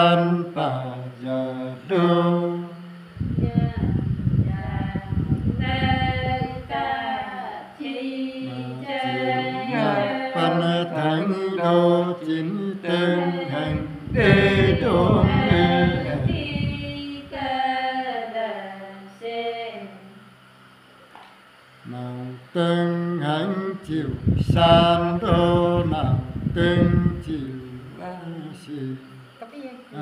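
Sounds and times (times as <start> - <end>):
man singing unaccompanied: 0.0 - 3.4, 5.5 - 18.2, 21.8 - 30.0
low rumbling noise: 0.0 - 7.8, 8.4 - 18.5, 21.8 - 29.4.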